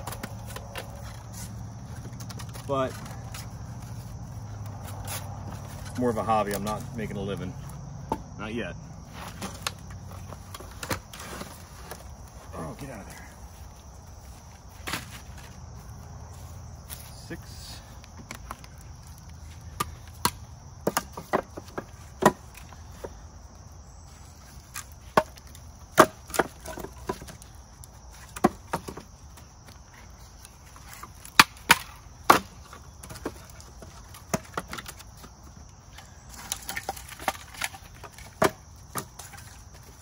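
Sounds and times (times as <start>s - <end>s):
wooden logs knocking together: 0.0s - 8.4s, 9.0s - 15.9s, 16.8s - 40.0s.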